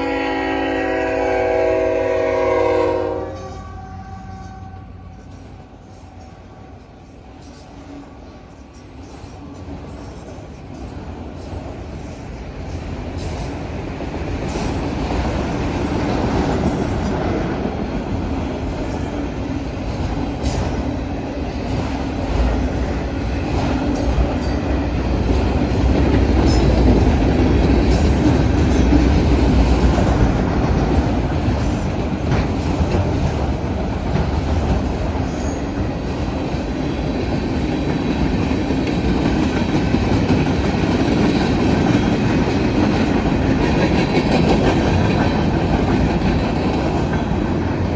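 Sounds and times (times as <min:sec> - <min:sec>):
train wheels rumbling on rail: 0:00.0 - 0:47.9
wheels clicking over rail joints: 0:05.2 - 0:47.9.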